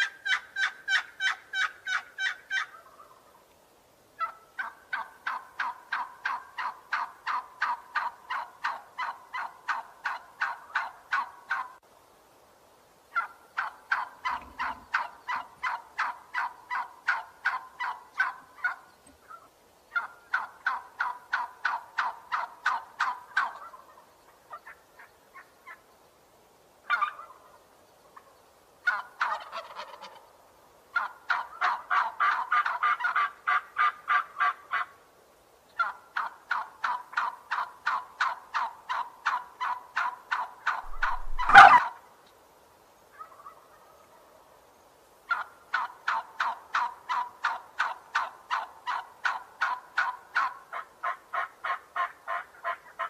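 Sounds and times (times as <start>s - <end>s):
turkey calling: 0.0s - 3.4s, 4.2s - 11.8s, 13.1s - 25.8s, 26.9s - 27.6s, 28.2s - 30.3s, 30.9s - 34.9s, 35.8s - 42.0s, 43.1s - 44.4s, 45.3s - 53.0s.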